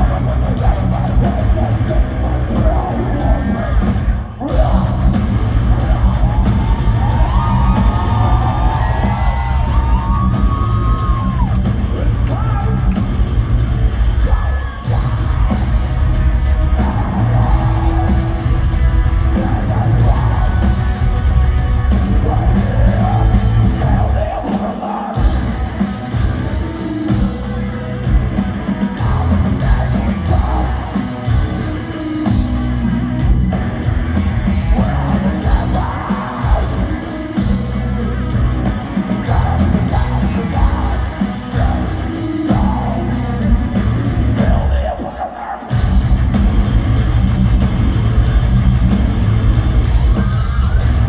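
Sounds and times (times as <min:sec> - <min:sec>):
heavy metal band playing live: 0:00.0 - 0:51.0
yelled and sung vocals: 0:00.0 - 0:51.0.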